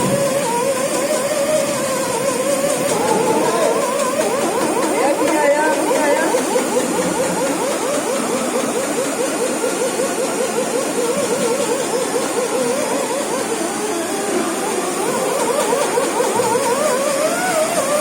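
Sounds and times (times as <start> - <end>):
electric fish scaler whine: 0.0 - 18.0.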